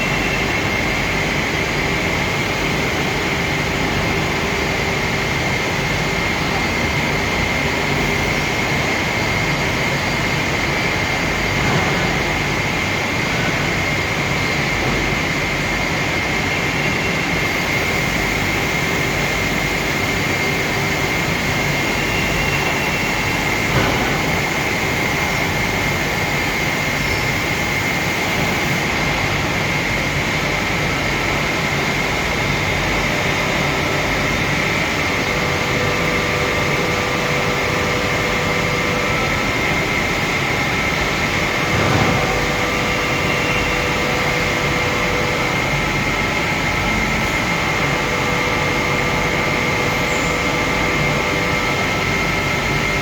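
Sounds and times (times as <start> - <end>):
machine high whine: 0.0 - 53.0.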